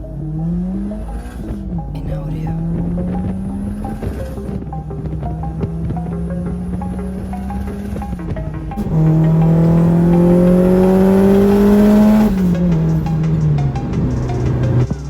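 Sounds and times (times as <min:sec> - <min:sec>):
car engine accelerating hard: 0:00.0 - 0:01.9, 0:02.5 - 0:15.0
background music with steady beat: 0:00.0 - 0:15.0.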